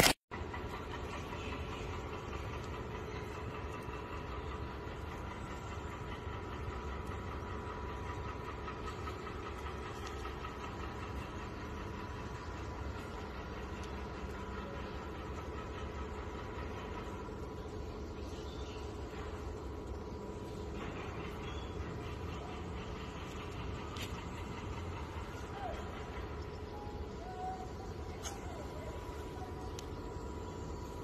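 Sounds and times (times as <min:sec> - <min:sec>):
low mechanical drone: 0:00.0 - 0:31.0.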